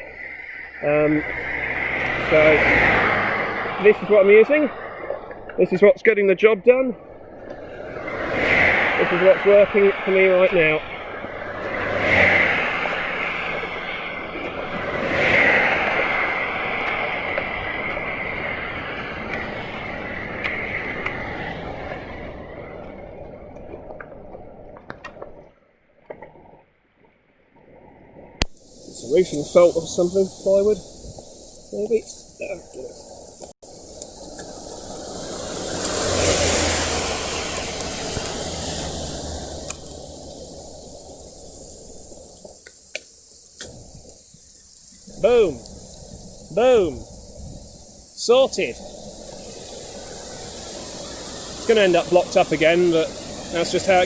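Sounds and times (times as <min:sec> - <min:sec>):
car engine hum: 0:00.0 - 0:22.9, 0:28.4 - 0:54.0
tyres hissing on wet road: 0:00.0 - 0:23.4, 0:28.4 - 0:54.0
steady road noise: 0:00.0 - 0:26.5, 0:27.7 - 0:54.0.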